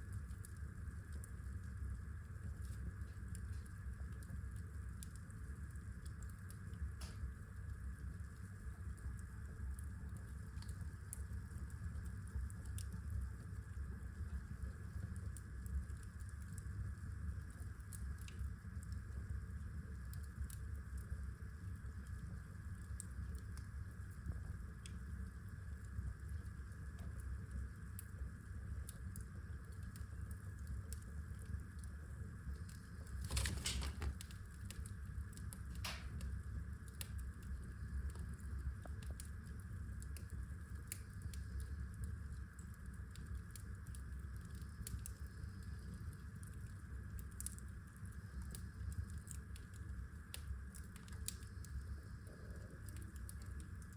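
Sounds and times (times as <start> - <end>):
fire crackles and pops: 0.0 - 53.9
rumble of fireplace flames: 0.0 - 53.9.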